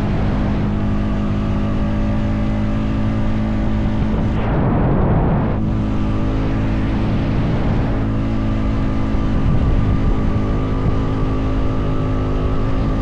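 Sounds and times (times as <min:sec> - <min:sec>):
atv engine running steadily: 0:00.0 - 0:13.0
rush of wind: 0:00.0 - 0:13.0.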